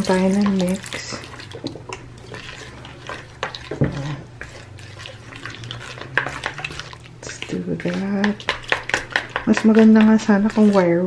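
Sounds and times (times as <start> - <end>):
steady low hum: 0.0 - 11.0
utensil scraping plastic bowl: 0.0 - 11.0.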